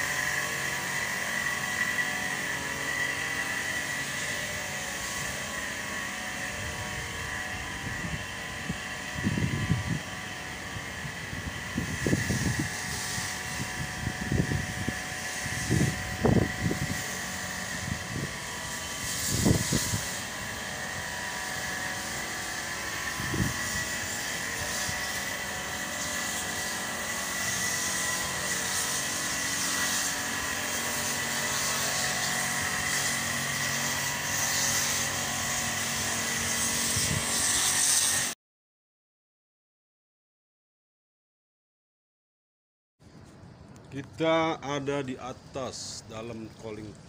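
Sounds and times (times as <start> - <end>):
machinery drone with high whine: 0.0 - 38.4.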